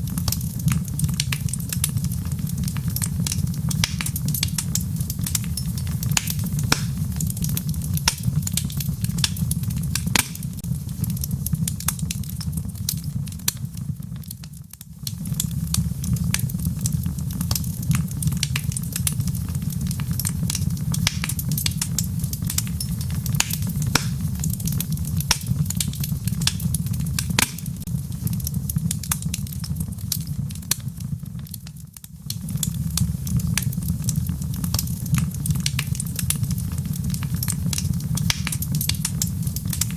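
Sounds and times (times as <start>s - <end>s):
logs burning with crackles: 0.0s - 39.9s.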